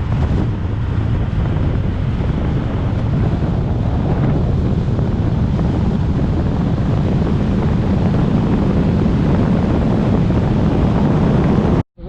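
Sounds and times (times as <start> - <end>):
jetski engine running: 0.0 - 11.8
wind buffeting microphone: 0.0 - 12.0.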